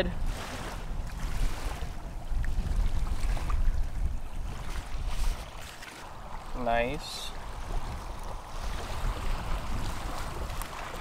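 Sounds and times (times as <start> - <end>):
small waves lapping shore: 0.0 - 11.0
wind rumbling on microphone: 0.0 - 11.0.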